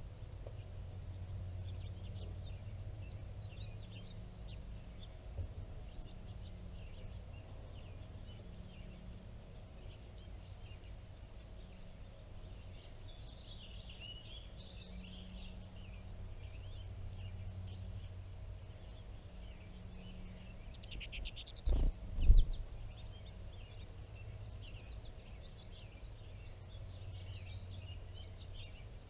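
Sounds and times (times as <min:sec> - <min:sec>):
low outdoor rumble: 0:00.0 - 0:29.0
small birds chirping: 0:00.0 - 0:29.0.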